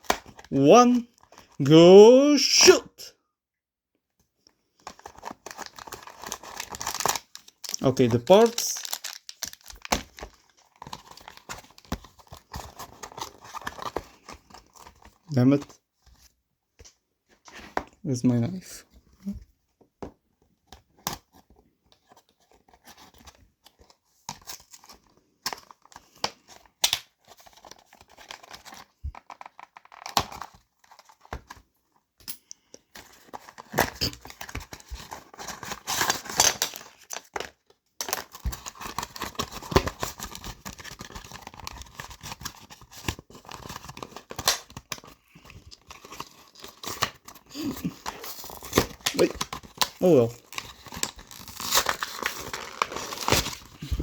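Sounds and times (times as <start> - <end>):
plastic and cardboard crinkling: 4.6 - 18.0, 18.7 - 31.9, 32.8 - 54.0.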